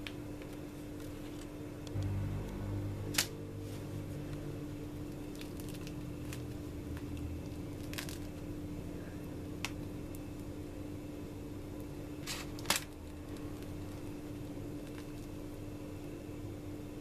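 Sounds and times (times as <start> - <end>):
pastry tearing and rustling: 0.0 - 2.0, 3.1 - 10.8, 11.6 - 15.9
pastry crackling: 0.0 - 17.0
steady low hum: 0.0 - 17.0.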